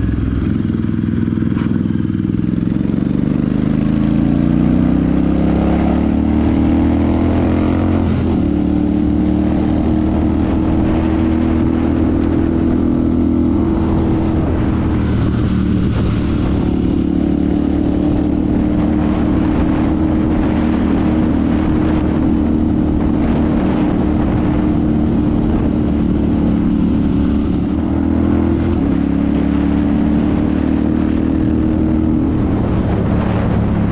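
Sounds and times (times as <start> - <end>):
motorcycle engine and exhaust: 0.0 - 33.9.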